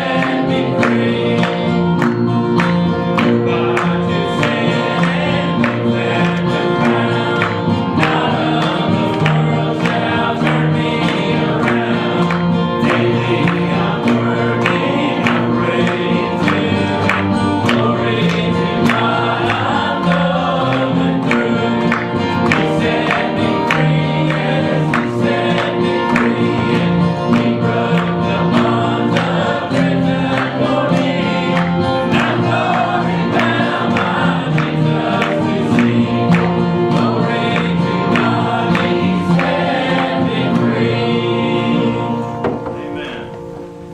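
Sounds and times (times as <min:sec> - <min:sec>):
congregation singing a hymn: 0:00.0 - 0:43.9.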